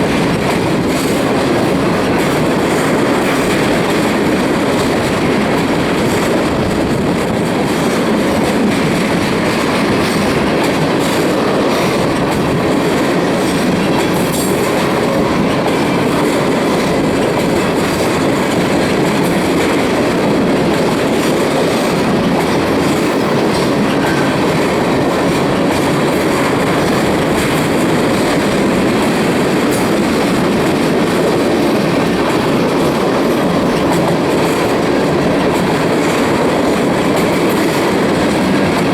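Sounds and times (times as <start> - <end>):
rail joints clickety-clack: 0.0 - 38.9
train wheels rumbling on rails: 0.0 - 38.9.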